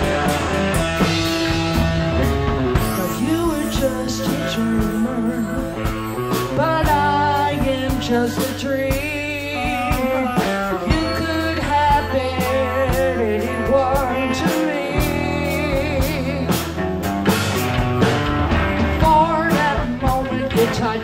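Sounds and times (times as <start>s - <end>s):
drum beat: 0.0s - 21.0s
electric guitars: 0.0s - 21.0s.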